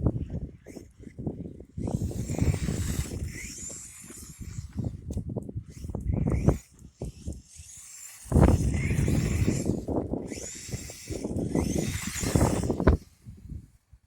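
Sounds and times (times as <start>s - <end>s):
rc truck motor whine: 0.0s - 14.0s
wind rumble on microphone: 0.0s - 14.0s.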